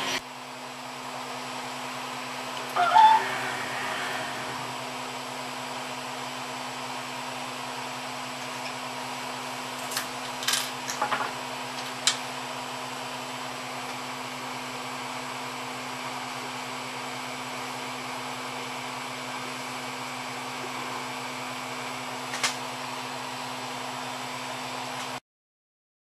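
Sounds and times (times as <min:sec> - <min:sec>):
cooling fans whirring: 0:00.0 - 0:25.2.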